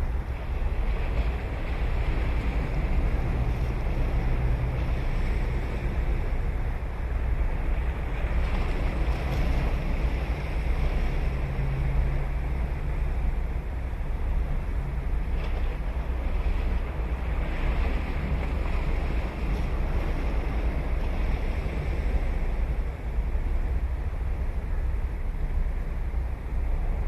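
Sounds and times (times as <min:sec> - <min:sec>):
ocean waves breaking on beach: 0:00.0 - 0:27.0.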